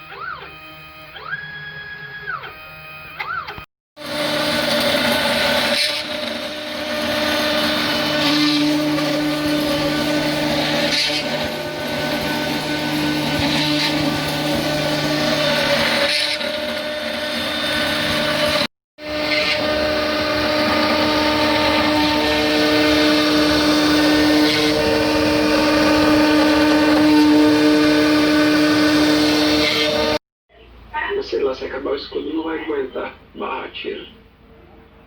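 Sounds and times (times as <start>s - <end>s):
machine motor whine: 0.0s - 30.2s.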